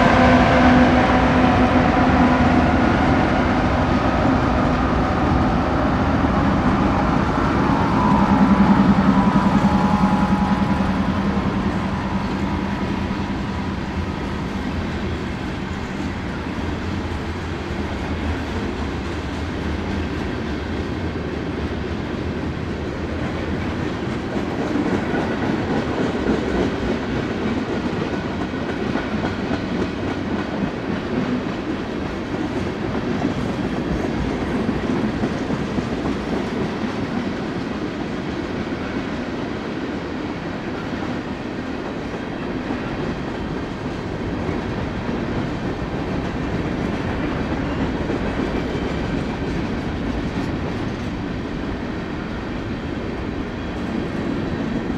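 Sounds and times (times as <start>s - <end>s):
freight cars rumbling on rails: 0.0s - 54.9s.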